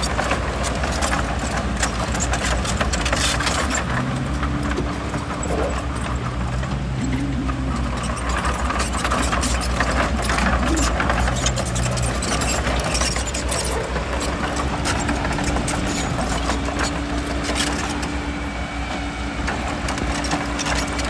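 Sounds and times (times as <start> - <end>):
bulldozer diesel engine running: 0.0 - 21.0
metal clanks and rattles: 0.0 - 21.0.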